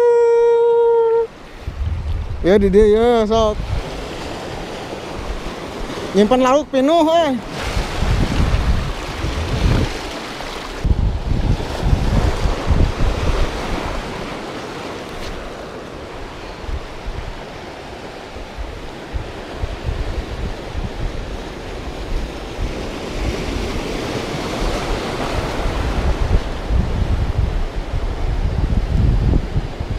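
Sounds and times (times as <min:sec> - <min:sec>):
sea noise: 0:00.0 - 0:29.9
wind buffeting microphone: 0:00.0 - 0:29.9.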